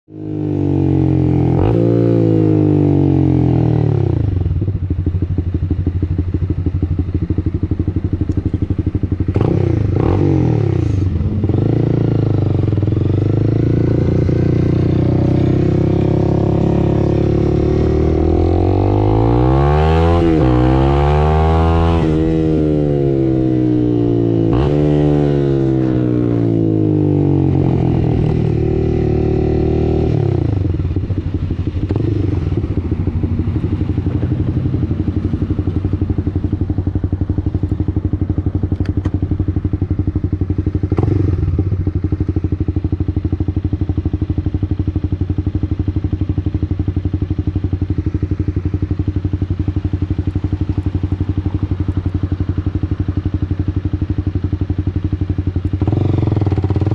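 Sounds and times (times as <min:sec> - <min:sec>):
motorcycle engine revving: 0:00.1 - 0:56.9.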